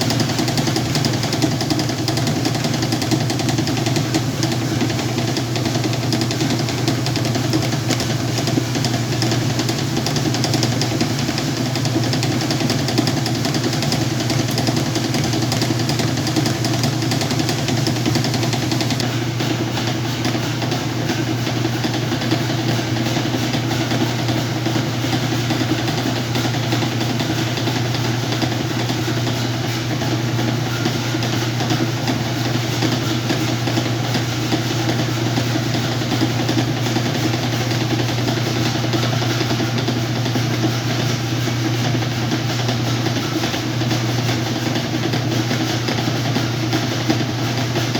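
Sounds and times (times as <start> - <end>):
washing machine mechanical noise: 0.0 - 47.9
washing machine motor hum: 0.0 - 47.9.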